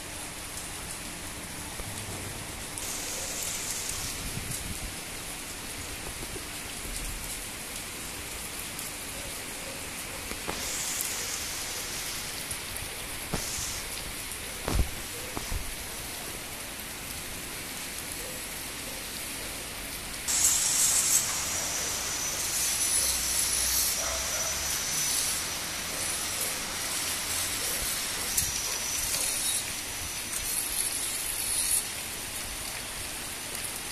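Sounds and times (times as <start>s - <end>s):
heavy rain on muddy ground: 0.0s - 33.9s
running water: 0.9s - 33.9s.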